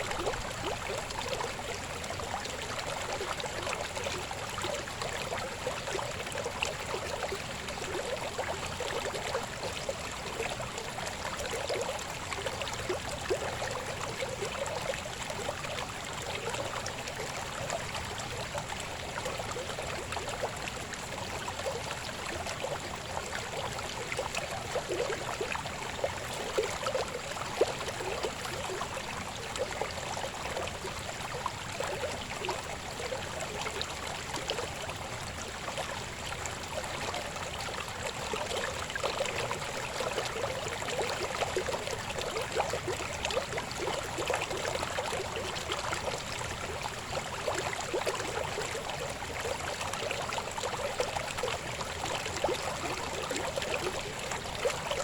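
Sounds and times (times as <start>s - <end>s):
river flowing water: 0.0s - 55.0s.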